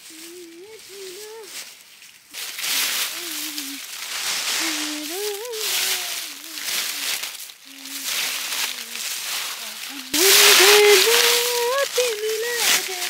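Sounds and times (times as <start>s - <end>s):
high voice wordless sounds: 0.0s - 1.5s, 3.1s - 3.8s, 4.6s - 13.0s
steady hiss: 0.0s - 13.0s.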